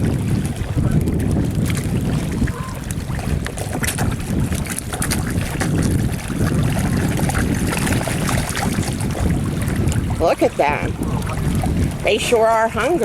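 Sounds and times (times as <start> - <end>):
fish splashing at water surface: 0.0 - 13.0
wind buffeting microphone: 0.0 - 13.0.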